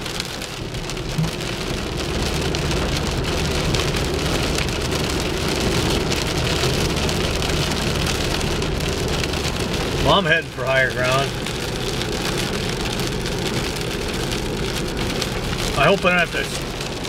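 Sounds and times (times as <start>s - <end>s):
engine and tyre hum: 0.0s - 17.0s
rain on a car: 0.0s - 17.0s.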